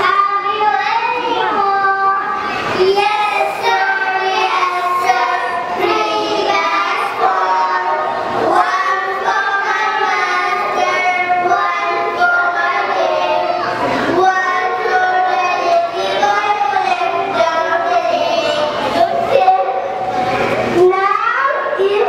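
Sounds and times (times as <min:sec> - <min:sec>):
children singing: 0:00.0 - 0:20.9.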